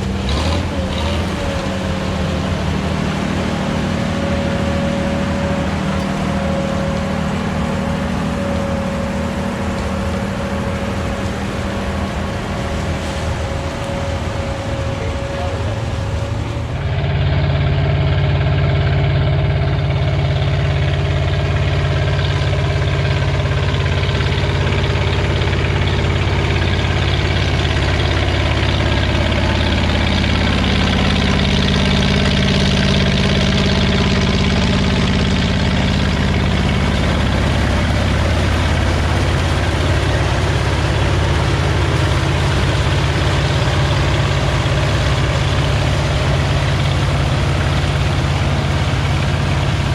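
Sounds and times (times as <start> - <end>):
machinery engine running: 0.0 - 49.9.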